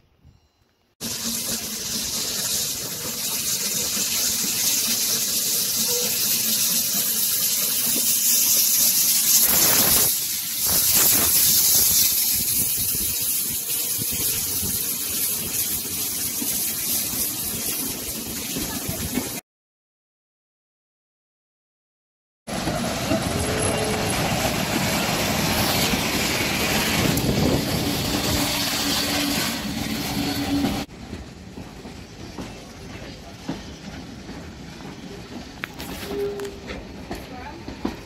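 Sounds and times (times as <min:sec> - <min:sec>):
locomotive steam hissing: 0:01.0 - 0:19.4, 0:22.5 - 0:38.0.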